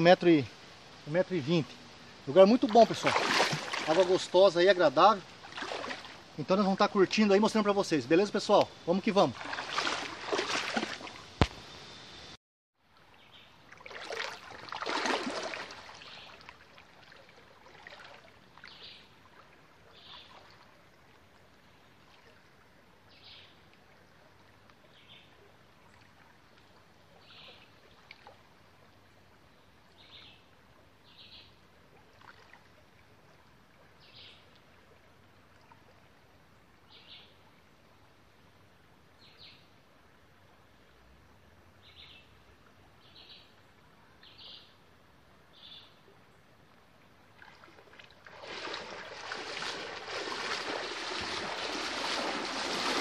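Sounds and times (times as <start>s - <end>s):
river water sloshing: 0.0s - 12.0s, 12.8s - 38.5s, 46.0s - 53.0s
quiet river background: 0.0s - 53.0s.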